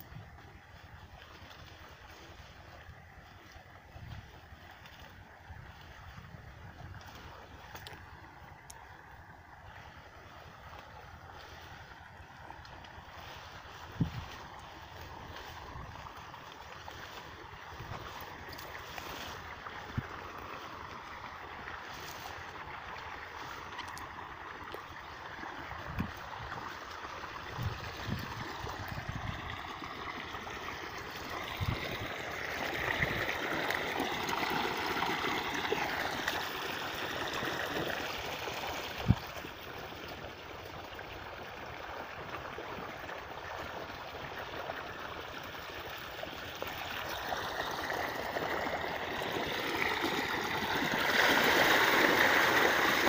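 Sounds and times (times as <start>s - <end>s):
water running and gurgling: 0.0s - 53.0s.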